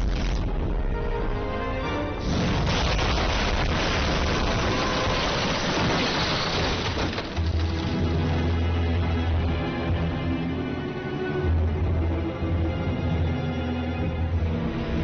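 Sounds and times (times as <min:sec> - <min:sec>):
dramatic background music: 0:00.0 - 0:15.0.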